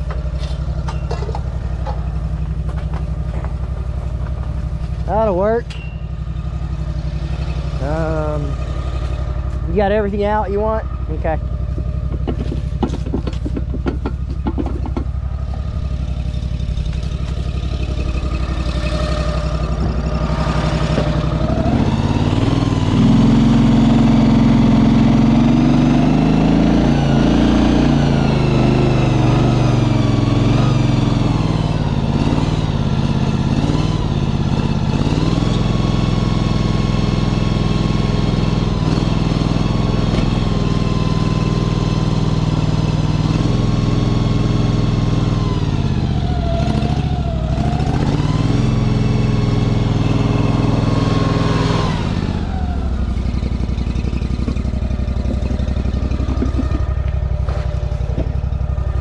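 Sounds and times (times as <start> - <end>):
motorized shed mover engine: 0.0 - 59.0.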